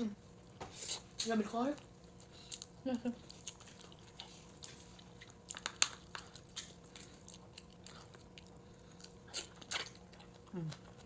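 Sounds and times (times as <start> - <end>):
person chewing: 2.0 - 11.0.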